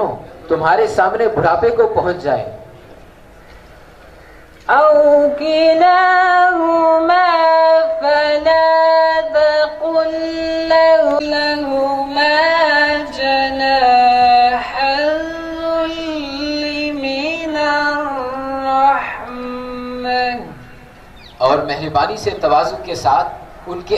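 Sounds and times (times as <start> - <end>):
man reciting melodically: 0.0 - 2.8, 4.7 - 23.9.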